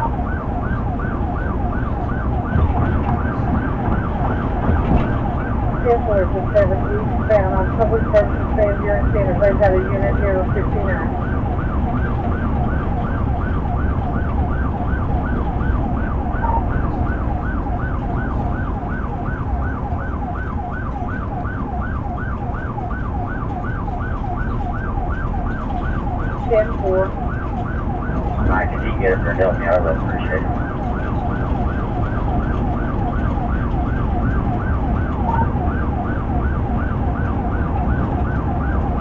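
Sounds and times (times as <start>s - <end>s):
engine and road rumble: 0.0s - 39.0s
police siren yelping: 0.0s - 39.0s.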